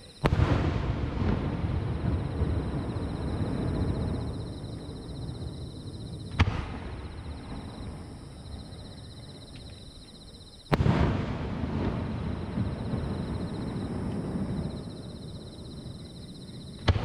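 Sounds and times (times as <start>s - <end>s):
fireworks booming: 0.0s - 9.8s, 10.6s - 17.0s.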